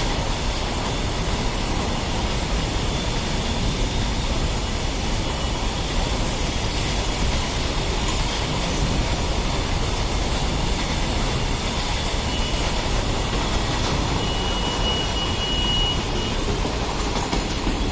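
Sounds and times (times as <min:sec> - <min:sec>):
high-pitched squeal: 0:00.0 - 0:16.8
train wheels rushing on rails: 0:00.0 - 0:17.9.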